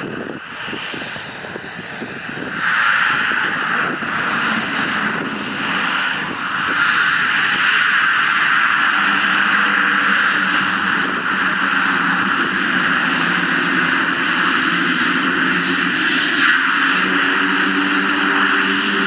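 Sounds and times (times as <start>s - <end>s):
turboprop engine and propeller running: 0.0s - 19.0s.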